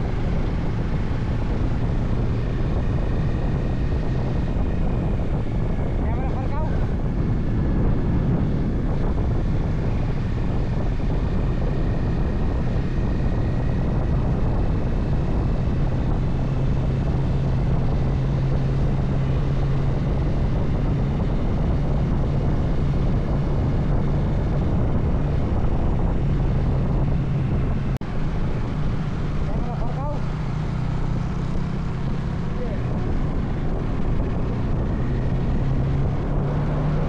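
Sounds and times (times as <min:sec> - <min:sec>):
motorcycle engine cruising: 0:00.0 - 0:37.0
wind noise: 0:00.0 - 0:37.0.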